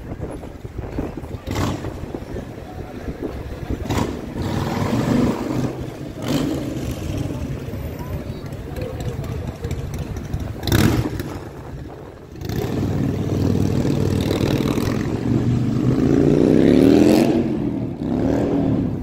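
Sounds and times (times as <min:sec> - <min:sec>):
engine running and revving: 0:00.9 - 0:07.8, 0:08.4 - 0:19.0.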